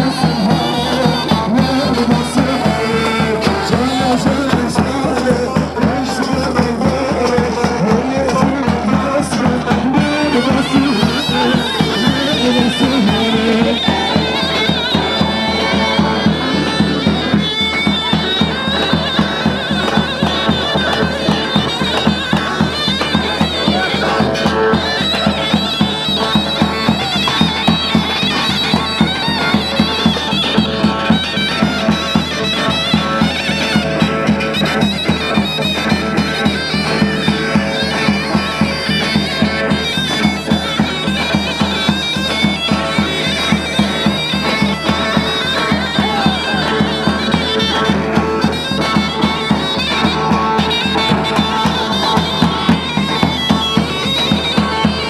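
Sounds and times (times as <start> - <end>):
shrill shawm melody: 0.0 - 55.0
steady drum beat: 0.0 - 55.0.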